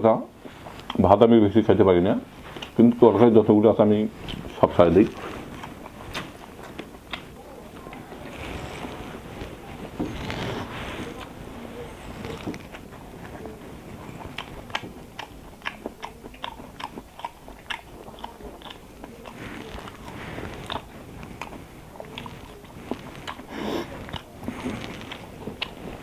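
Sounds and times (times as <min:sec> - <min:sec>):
person chewing food: 0:00.4 - 0:01.2, 0:02.3 - 0:26.0.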